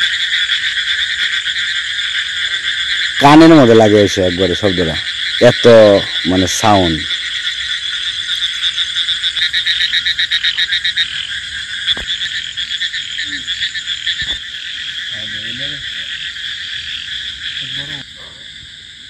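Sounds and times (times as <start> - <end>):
frogs calling: 0.0 - 19.0.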